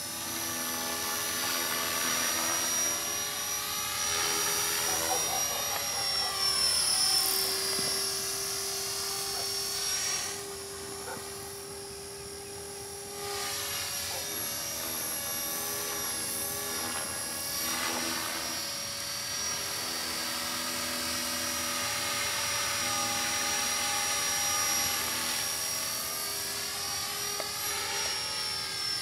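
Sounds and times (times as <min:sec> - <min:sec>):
rc helicopter motor whine: 0:00.0 - 0:29.0
rotor buzz: 0:00.0 - 0:29.0.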